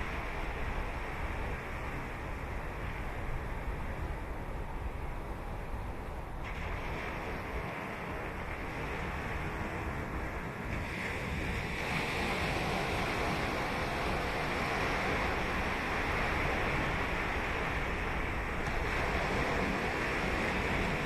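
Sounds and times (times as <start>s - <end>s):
ocean surf washing ashore: 0.0s - 21.0s.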